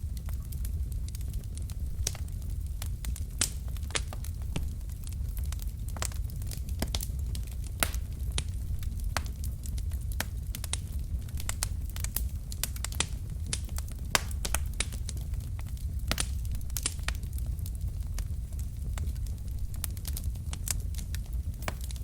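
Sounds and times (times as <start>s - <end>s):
burning logs crackling: 0.0s - 22.0s
low rumble of flame: 0.0s - 22.0s.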